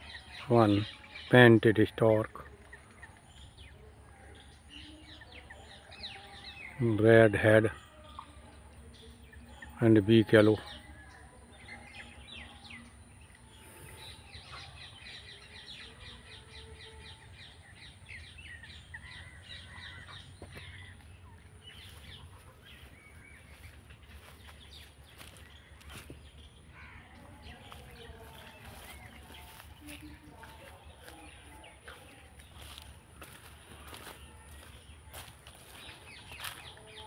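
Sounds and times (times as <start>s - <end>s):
faint outdoor ambience: 0.0s - 37.0s
small birds chirping: 0.0s - 37.0s.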